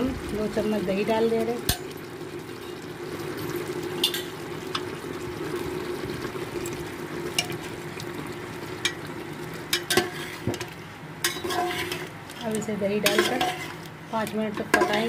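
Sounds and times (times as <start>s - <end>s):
meat frying in oil: 0.0s - 15.0s.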